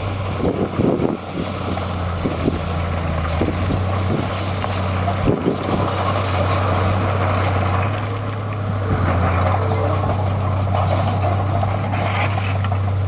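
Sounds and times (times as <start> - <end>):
heavy diesel engine under load: 0.0 - 13.0.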